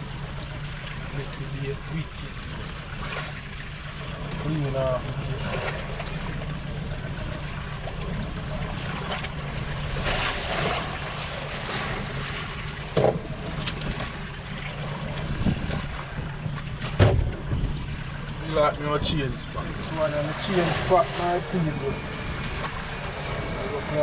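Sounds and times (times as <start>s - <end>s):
low motor hum: 0.0s - 24.0s
sea noise: 0.0s - 24.0s
wind: 0.0s - 24.0s.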